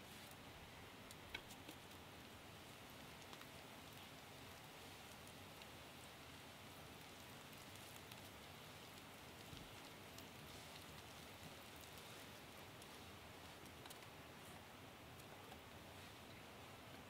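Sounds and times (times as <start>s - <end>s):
faint hiss: 0.0s - 17.0s
soft ticks: 1.0s - 2.4s, 3.0s - 5.8s, 7.0s - 17.0s.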